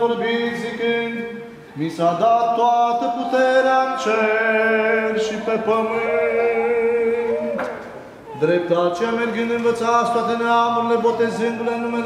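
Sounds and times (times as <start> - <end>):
man singing liturgical chant: 0.0 - 7.6, 8.4 - 12.0.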